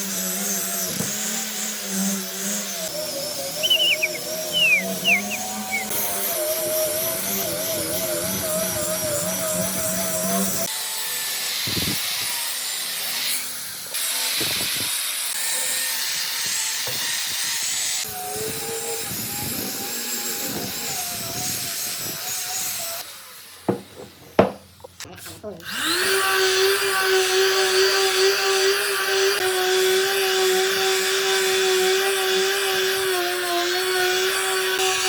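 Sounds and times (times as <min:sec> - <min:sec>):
power tool cutting wood: 0:00.0 - 0:35.0.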